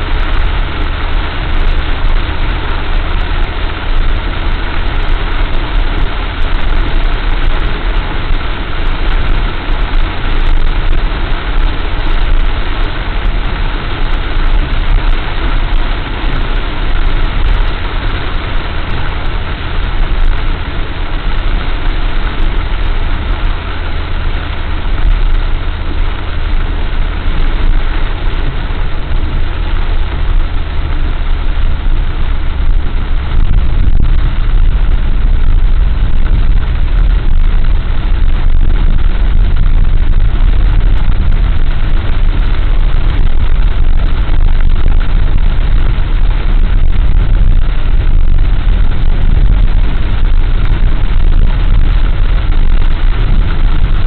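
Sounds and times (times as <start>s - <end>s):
engine and road rumble: 0.0s - 54.0s
rain and tyre spray hiss: 0.0s - 54.0s.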